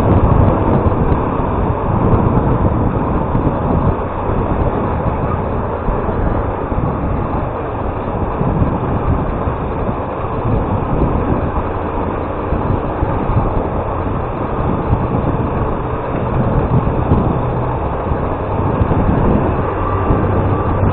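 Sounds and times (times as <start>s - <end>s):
motorcycle engine running: 0.0s - 20.9s
road and wind noise: 0.0s - 20.9s.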